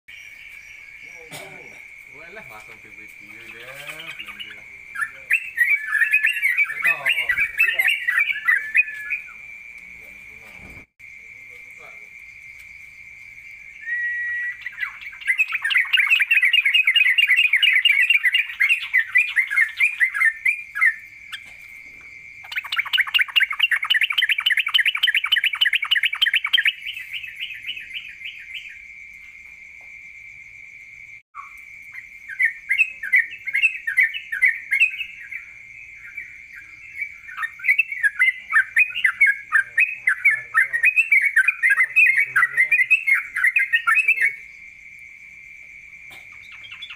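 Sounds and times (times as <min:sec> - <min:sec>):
songbird trilling: 0:00.1 - 0:10.4, 0:13.8 - 0:28.9, 0:31.4 - 0:44.5, 0:46.1 - 0:46.9.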